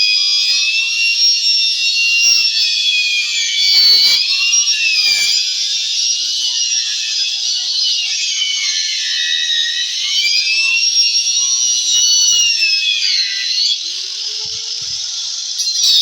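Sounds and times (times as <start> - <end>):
power tool whining while cutting: 0.0 - 16.0.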